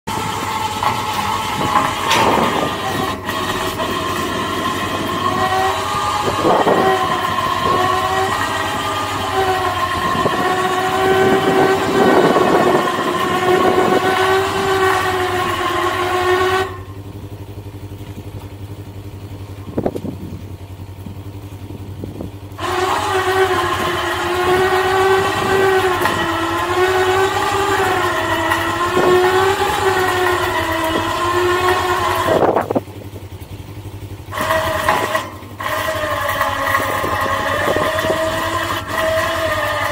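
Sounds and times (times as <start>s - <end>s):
electric winch whining: 0.0s - 39.9s.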